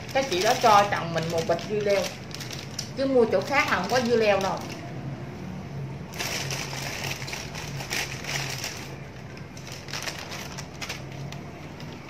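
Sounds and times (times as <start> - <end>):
plastic bag crinkling: 0.0 - 4.9, 6.1 - 12.0.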